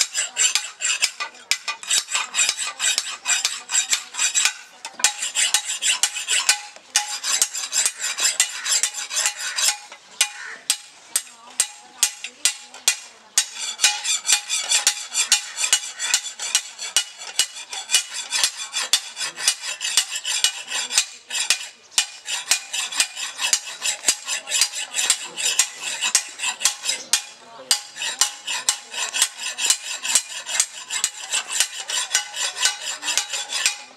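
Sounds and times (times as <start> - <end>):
file rasping on metal blade: 0.0 - 33.9.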